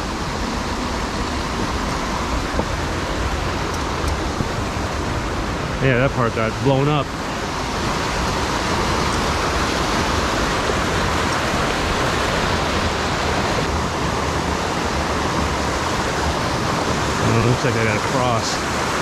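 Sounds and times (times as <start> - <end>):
creek rushing over rocks: 0.0 - 19.0.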